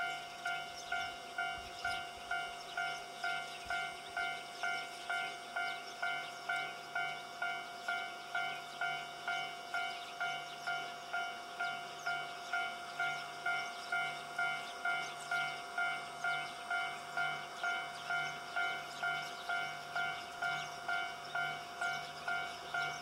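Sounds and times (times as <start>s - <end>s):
level-crossing warning bell ringing: 0.0s - 23.0s.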